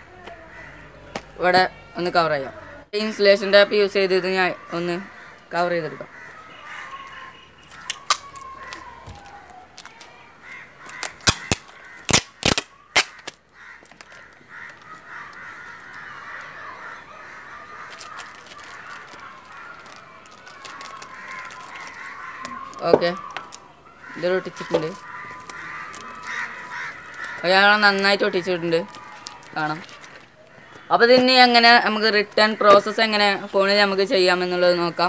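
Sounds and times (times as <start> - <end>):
birds calling: 0.0 - 35.0.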